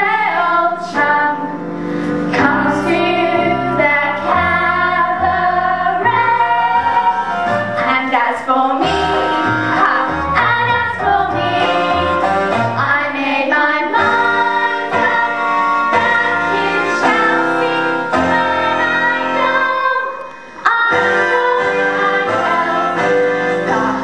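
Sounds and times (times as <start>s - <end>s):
women singing: 0.0s - 1.6s, 2.3s - 24.0s
instrumental accompaniment with bass: 0.0s - 24.0s.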